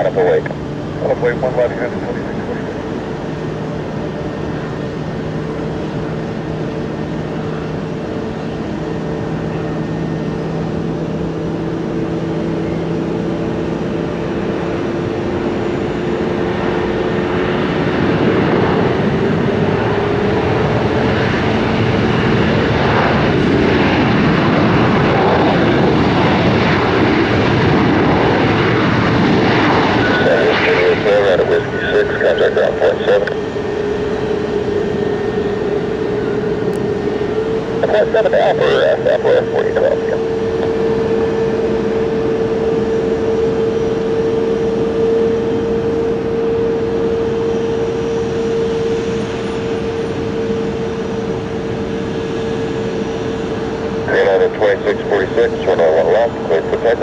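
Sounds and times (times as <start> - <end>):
aircraft engines: 0.0 - 57.0.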